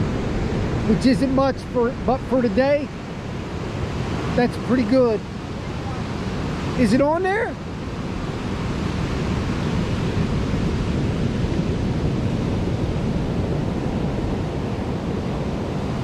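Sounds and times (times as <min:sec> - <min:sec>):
ocean surf breaking on beach: 0:00.0 - 0:16.0
wind on microphone: 0:00.0 - 0:16.0.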